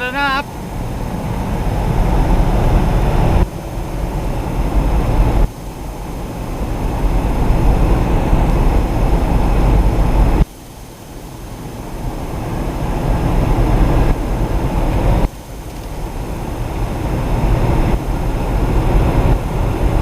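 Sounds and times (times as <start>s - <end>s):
car road and wind noise: 0.0s - 20.0s.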